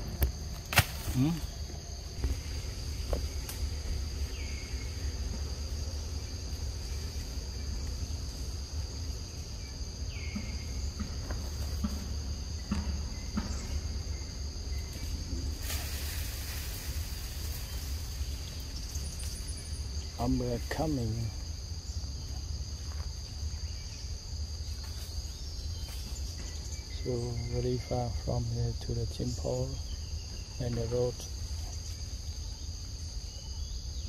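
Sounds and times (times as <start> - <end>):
rustling hiss: 0.0 - 12.5, 14.4 - 33.9
forest insects chorus: 0.0 - 34.0.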